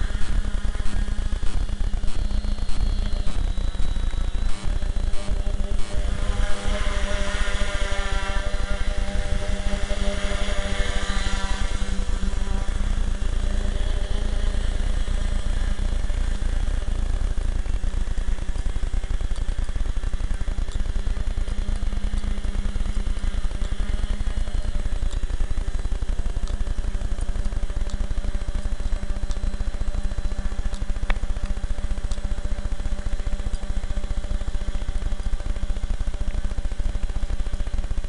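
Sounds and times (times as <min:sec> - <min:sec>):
constant low rumble: 0:00.0 - 0:38.0
drone propellers whirring: 0:00.0 - 0:38.0.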